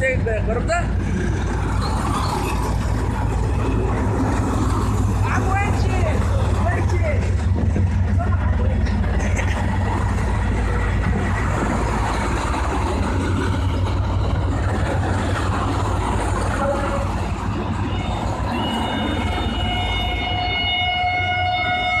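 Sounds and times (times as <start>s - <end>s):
train rumbling on wheels: 0.0s - 22.0s
high-pitched squealing tones: 1.4s - 6.9s, 8.1s - 22.0s.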